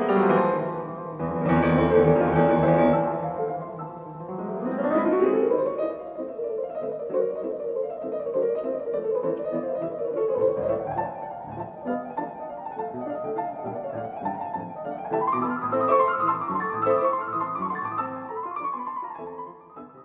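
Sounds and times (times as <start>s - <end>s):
fast classical piano piece: 0.0s - 20.0s.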